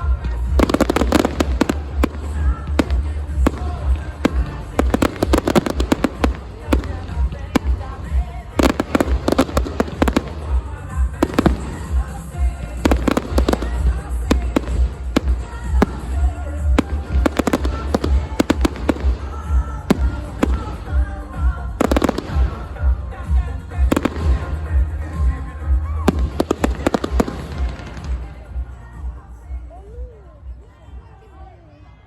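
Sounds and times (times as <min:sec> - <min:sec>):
fireworks bursting and crackling: 0:00.0 - 0:29.2
music: 0:00.0 - 0:32.0.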